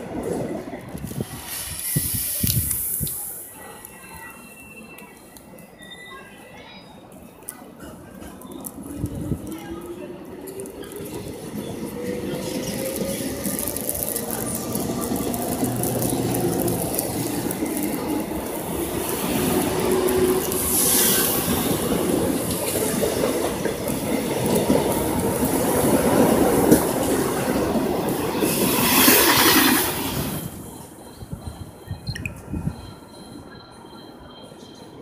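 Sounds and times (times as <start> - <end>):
electric train rumbling on rails: 0.0 - 35.0.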